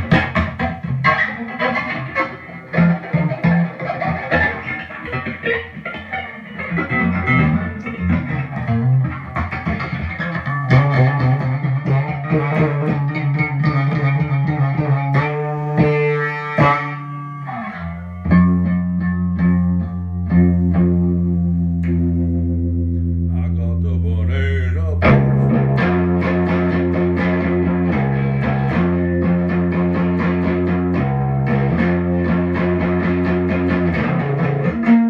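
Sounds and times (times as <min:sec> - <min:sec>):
blues guitar playing: 0:00.0 - 0:35.0.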